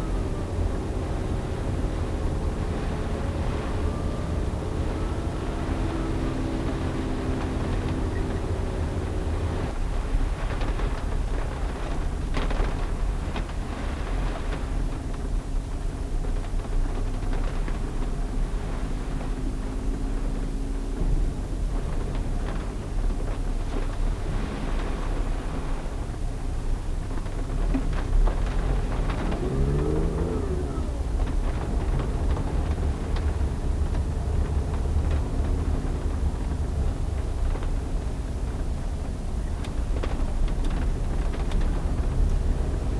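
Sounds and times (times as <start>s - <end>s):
engine and road rumble: 0.0s - 42.9s.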